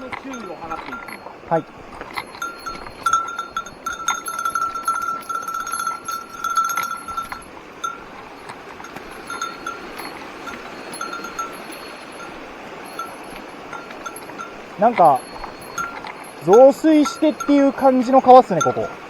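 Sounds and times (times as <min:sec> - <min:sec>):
small metal bell jingling: 0:00.0 - 0:19.0
stream water rushing: 0:00.0 - 0:19.0.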